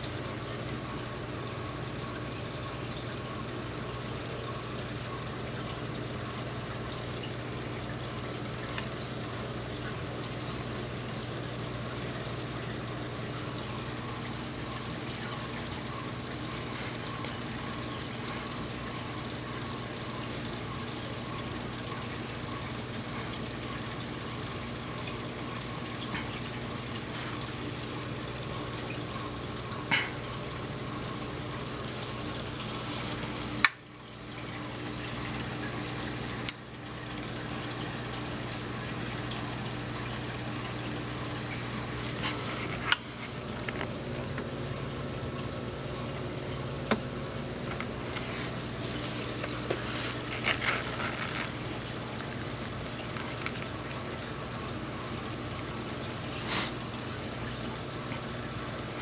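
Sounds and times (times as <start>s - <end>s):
low pump hum: 0.0s - 59.0s
water trickling and pouring: 0.0s - 59.0s.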